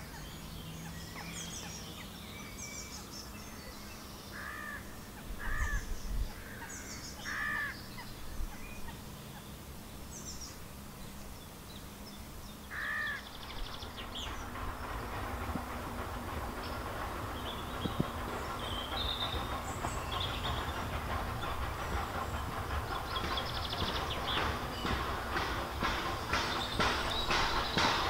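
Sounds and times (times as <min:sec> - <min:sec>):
songbirds chirping and twittering: 0:00.0 - 0:28.0.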